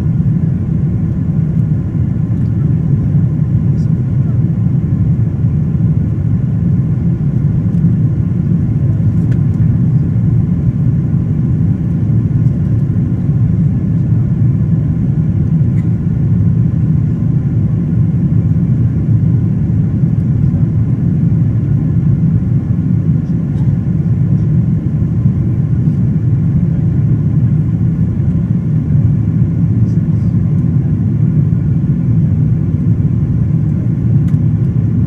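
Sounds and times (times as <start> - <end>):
airliner cabin engine drone: 0.0 - 35.0.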